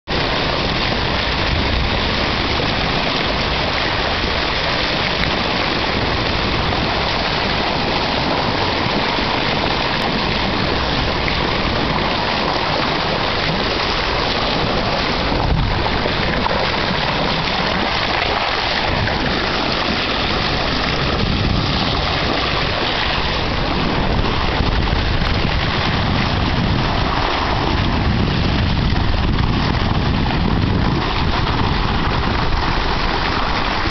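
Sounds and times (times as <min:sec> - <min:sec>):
sea water rushing and splashing: 0:00.1 - 0:33.9.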